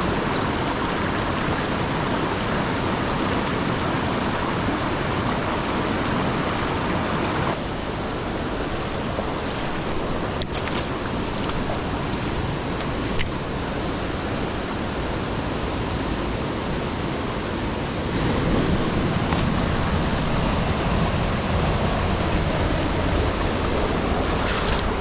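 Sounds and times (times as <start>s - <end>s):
rushing creek water: 0.0s - 25.0s.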